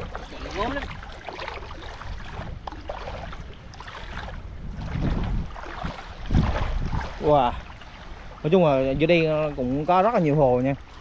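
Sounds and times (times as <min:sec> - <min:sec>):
water sloshing around wading legs: 0:00.0 - 0:11.0.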